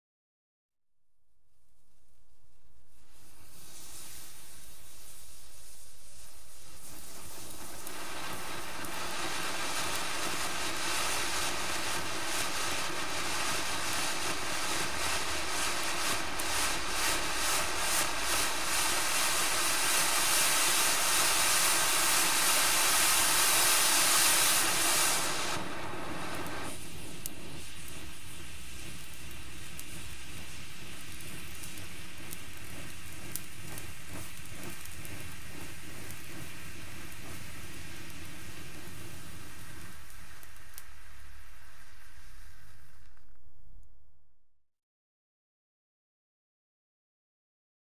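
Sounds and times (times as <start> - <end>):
firework fountain hissing: 2.6 - 43.8
faint crackles: 2.8 - 44.3.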